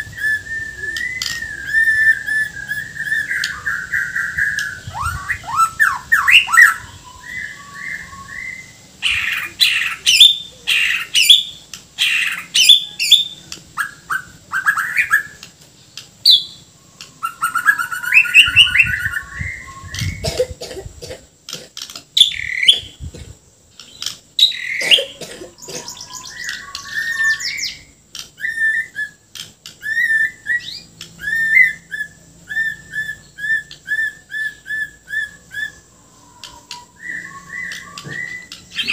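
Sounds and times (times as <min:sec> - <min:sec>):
bird singing whistles and chatter: 0:00.0 - 0:20.4, 0:22.2 - 0:23.1, 0:23.8 - 0:38.9.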